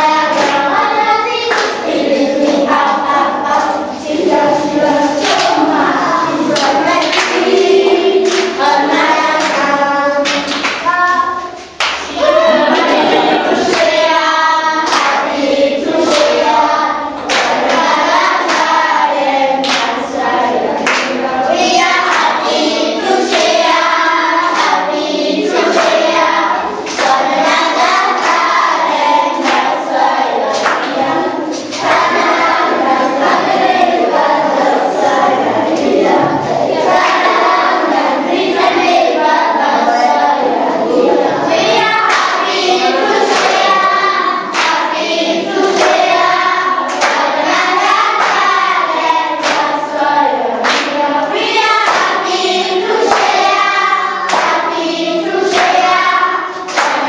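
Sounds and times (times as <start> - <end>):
children clapping: 0.0 - 57.0
children singing: 0.0 - 57.0.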